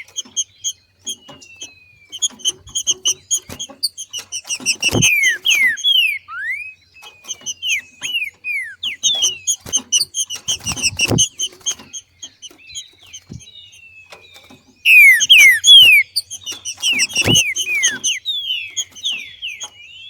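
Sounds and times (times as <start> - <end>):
bird whistled slurs: 0.0 - 12.0, 14.8 - 20.0
bird chip notes: 0.0 - 13.5, 14.4 - 19.8.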